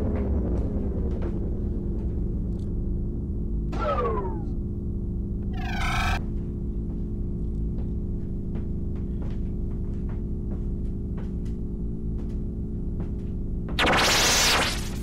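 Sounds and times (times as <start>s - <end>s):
low soundtrack drone: 0.0s - 15.0s.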